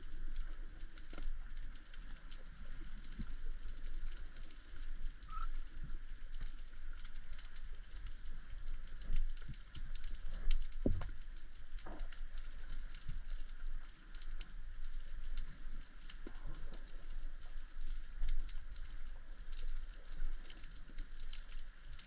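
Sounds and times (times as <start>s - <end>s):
low underwater rumble: 0.0s - 22.0s
underwater crackle of clicks: 0.0s - 22.0s.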